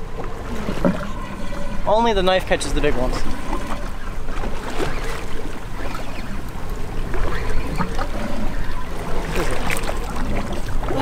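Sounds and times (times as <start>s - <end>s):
low rumble of boat: 0.0s - 11.0s
water noise: 0.0s - 11.0s
wind: 0.0s - 11.0s.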